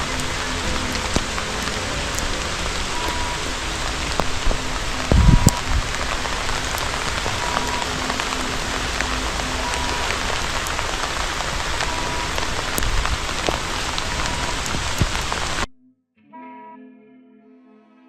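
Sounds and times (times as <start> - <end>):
soft instrumental music: 0.0 - 14.5
rain falling on plants: 0.0 - 15.7.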